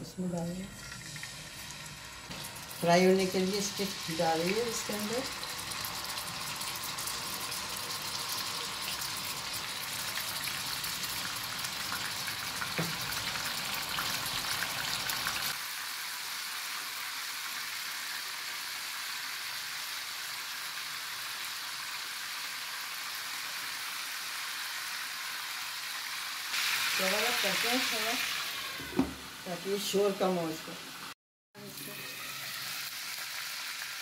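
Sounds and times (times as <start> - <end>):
meat sizzling in hot oil: 0.5 - 34.0.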